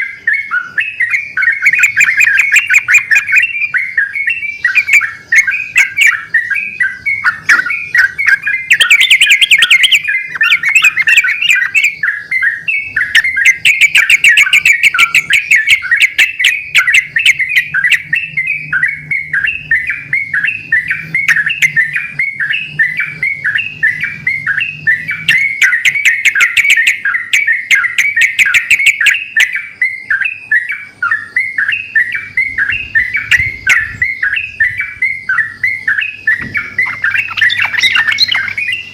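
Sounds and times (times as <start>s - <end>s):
birds rattling chatter: 0.0s - 38.9s
birds singing bubbly phrases: 0.0s - 38.9s.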